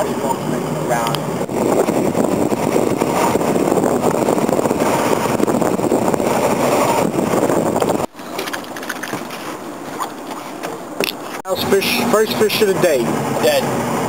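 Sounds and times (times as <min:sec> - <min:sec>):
choppy water: 0:00.0 - 0:12.2
wind buffeting microphone: 0:00.0 - 0:14.0.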